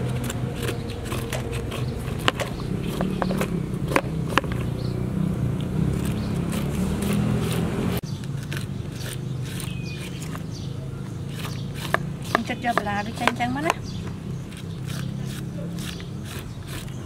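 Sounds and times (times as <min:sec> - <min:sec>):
peeler scraping cactus: 0:00.0 - 0:17.0.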